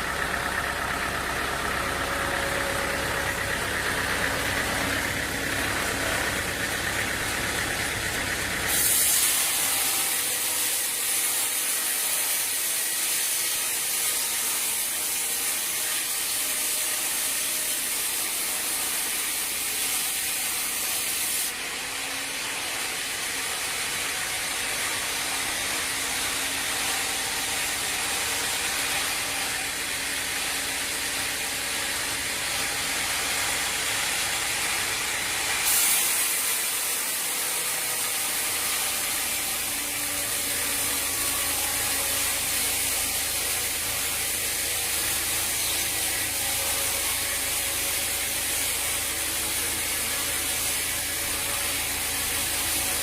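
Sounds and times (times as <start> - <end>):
sawmill machinery clatter: 0.0 - 53.0.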